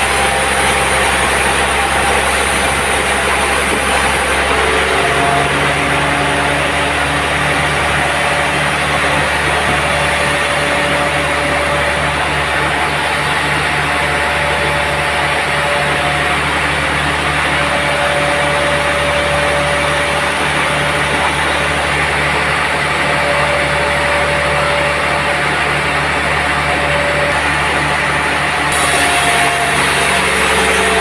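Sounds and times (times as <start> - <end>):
sawmill motor drone: 0.0 - 31.0
thin steady whine: 0.0 - 31.0.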